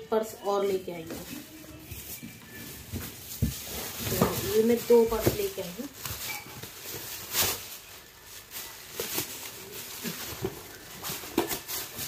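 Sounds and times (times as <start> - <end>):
plastic bag rustling: 0.1 - 12.0.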